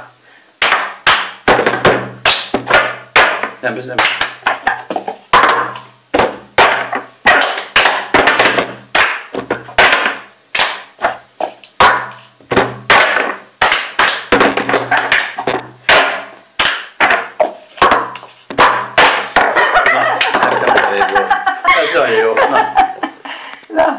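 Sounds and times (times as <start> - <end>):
hand claps: 0.6 - 21.3
plastic cups knocking on table: 0.6 - 21.3.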